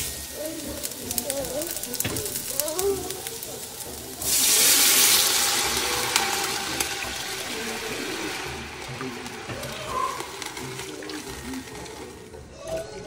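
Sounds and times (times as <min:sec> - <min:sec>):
liquid sizzling in hot oil: 0:00.0 - 0:12.5.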